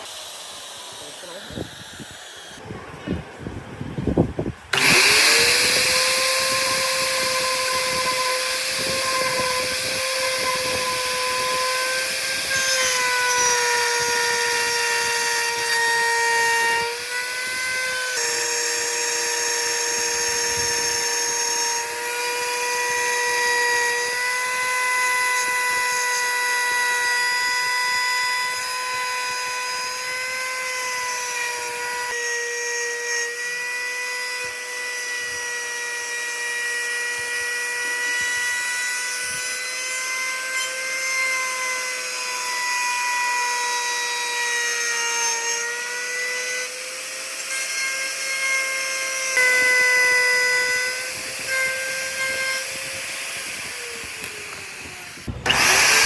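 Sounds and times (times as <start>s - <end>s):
power tool whining: 0.0s - 2.6s, 4.7s - 56.0s.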